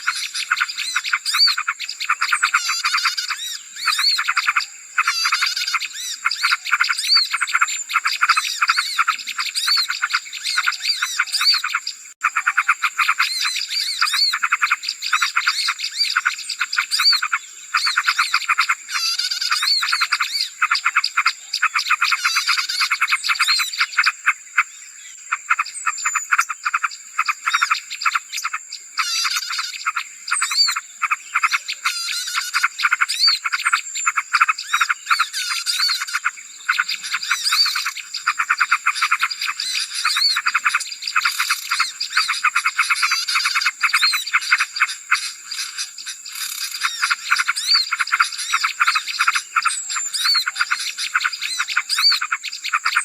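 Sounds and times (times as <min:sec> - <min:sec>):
small birds chattering: 0:00.0 - 0:53.0.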